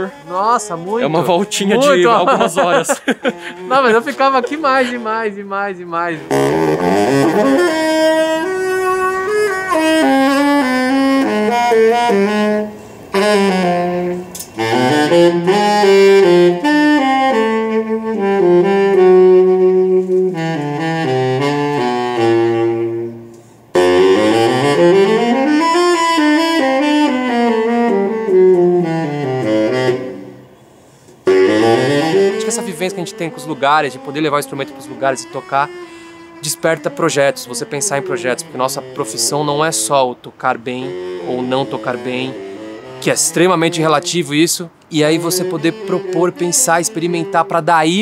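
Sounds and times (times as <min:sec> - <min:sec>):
baritone saxophone melody: 0:00.0 - 0:48.0.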